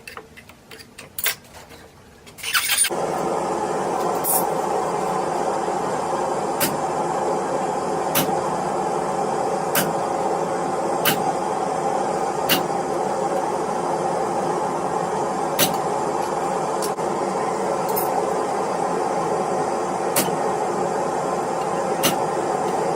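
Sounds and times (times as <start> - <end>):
forge roaring: 2.9 - 22.9.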